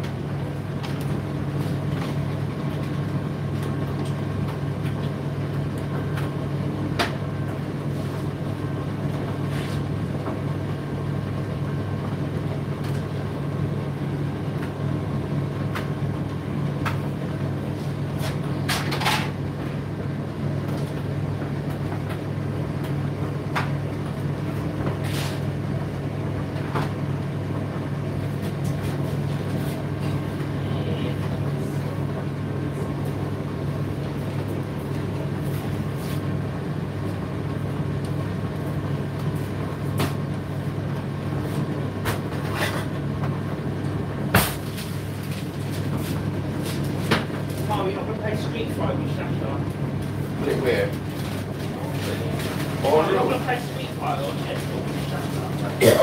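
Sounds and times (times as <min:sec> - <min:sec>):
tumble dryer hum: 0:00.0 - 0:56.0.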